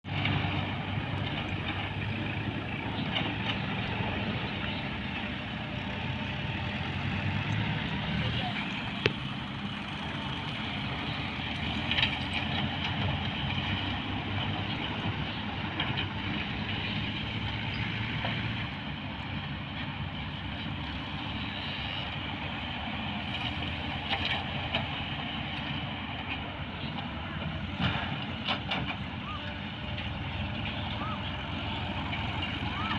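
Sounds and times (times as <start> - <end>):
diesel engine of heavy machinery: 0.0 - 32.9.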